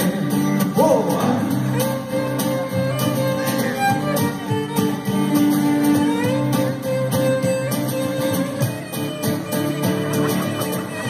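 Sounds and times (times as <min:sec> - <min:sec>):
acoustic guitar strumming: 0:00.0 - 0:11.0
fiddle playing long notes: 0:01.6 - 0:11.0.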